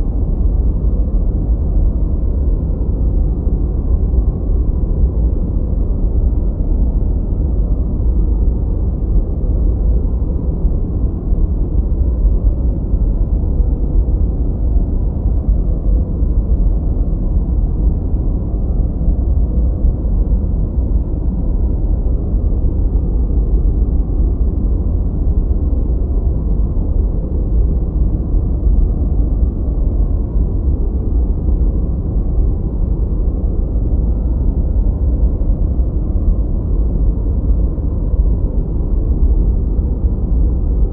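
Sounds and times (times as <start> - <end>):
deep steady noise rumble: 0.0 - 40.9.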